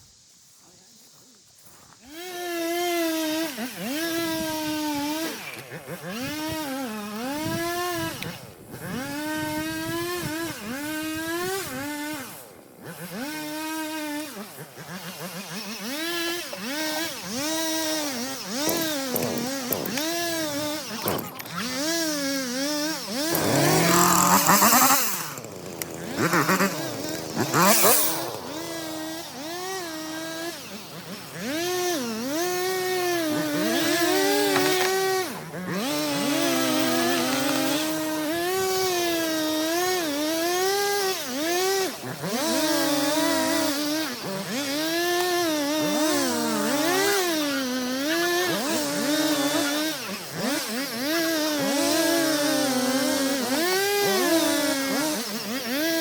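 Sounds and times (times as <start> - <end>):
chainsaw cutting wood: 1.6 - 56.0.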